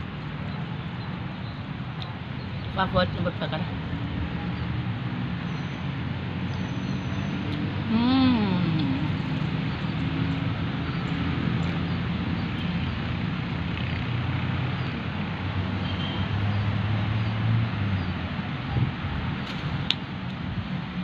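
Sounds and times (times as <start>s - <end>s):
road traffic noise: 0.0s - 21.0s
vehicle engine hum: 0.0s - 21.0s.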